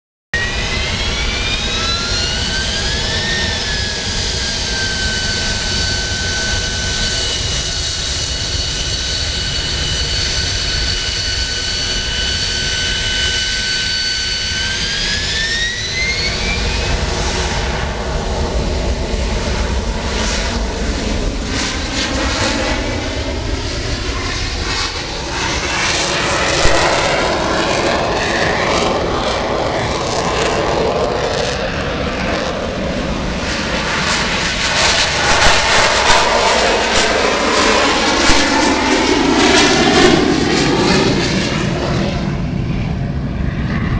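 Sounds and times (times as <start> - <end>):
jet engine whining: 0.4 - 43.9
loud jet roar: 0.4 - 43.9.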